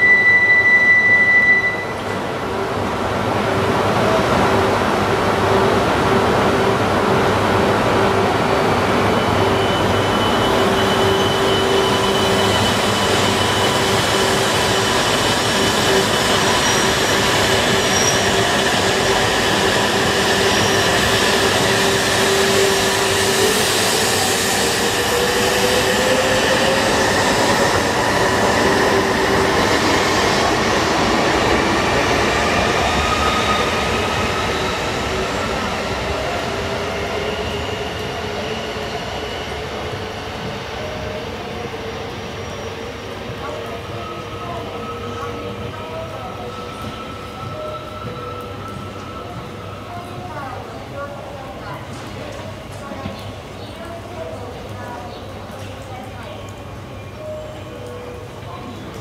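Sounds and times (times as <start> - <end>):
train running noise with hum: 0.0 - 53.7.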